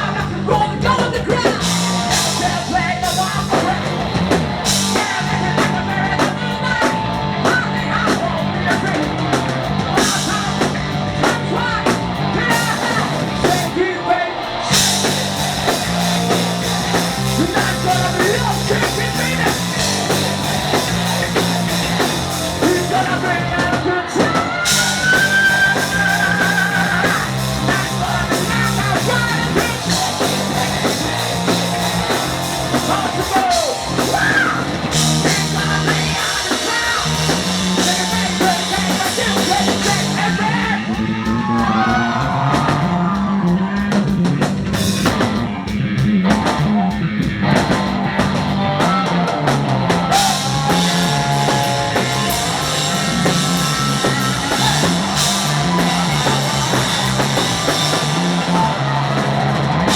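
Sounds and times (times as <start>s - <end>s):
person singing and shouting: 0.0s - 44.2s, 46.4s - 59.9s
bass guitar: 0.0s - 59.9s
distorted electric guitars: 0.0s - 59.9s
drum kit: 0.0s - 59.9s.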